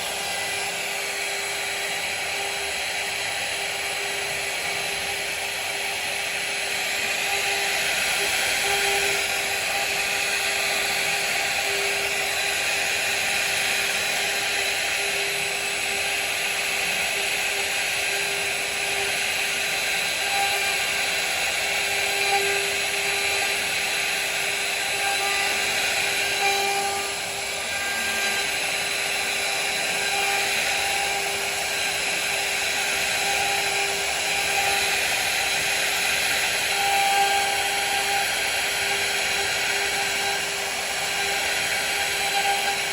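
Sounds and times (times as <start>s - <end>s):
router spindle whining cutting wood: 0.0s - 42.9s.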